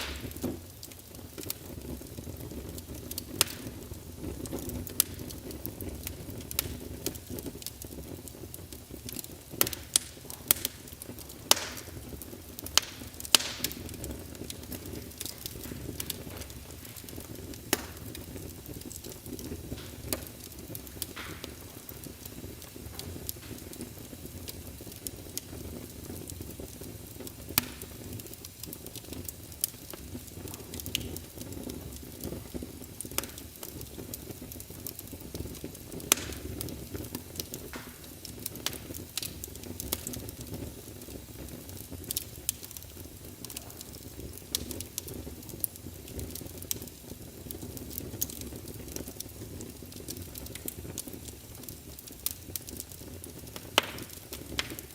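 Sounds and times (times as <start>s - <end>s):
fire crackling: 0.0s - 54.9s
fire popping: 0.0s - 54.9s
low rumble of flames: 0.0s - 54.9s.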